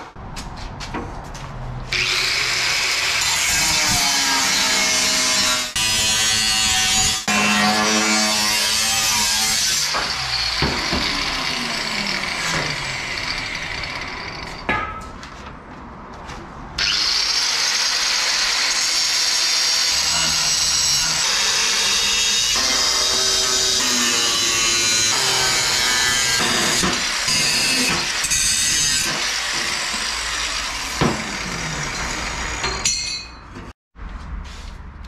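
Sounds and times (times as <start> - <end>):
angle grinder cutting steel: 1.9 - 14.7, 16.8 - 33.3.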